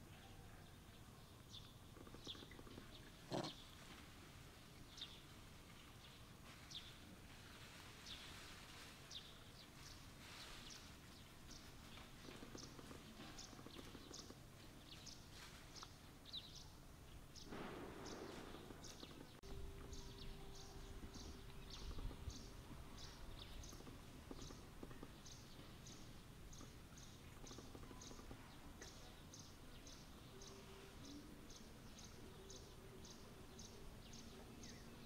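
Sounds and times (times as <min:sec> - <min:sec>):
faint steady hum: 0:00.0 - 0:35.0
small birds chirping: 0:00.0 - 0:35.0.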